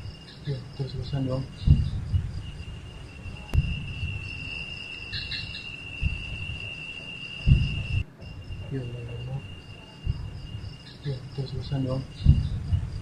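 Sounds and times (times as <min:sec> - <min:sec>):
low dull thuds: 0:00.0 - 0:04.7, 0:05.8 - 0:08.8, 0:09.4 - 0:13.0
crickets trilling: 0:00.0 - 0:13.0.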